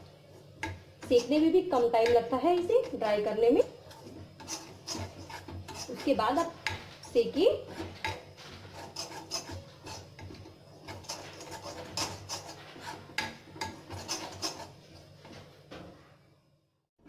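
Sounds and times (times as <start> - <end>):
spoon scraping metal pan: 0.3 - 15.4.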